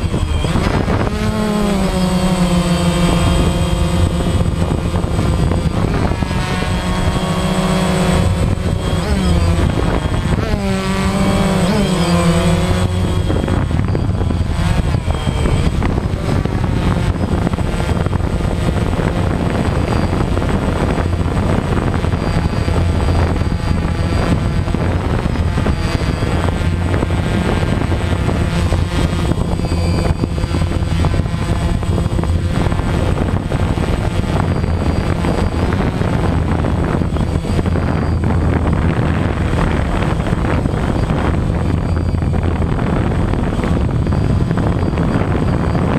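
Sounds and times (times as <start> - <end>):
drone propellers buzzing: 0.0 - 45.9.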